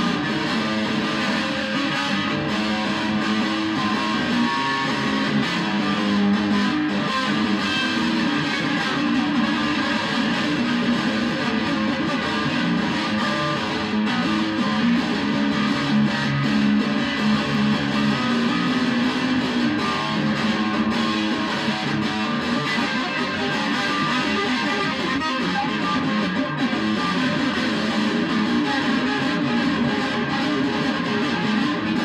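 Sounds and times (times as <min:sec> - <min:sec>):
electric guitar rock solo: 0:00.0 - 0:32.0.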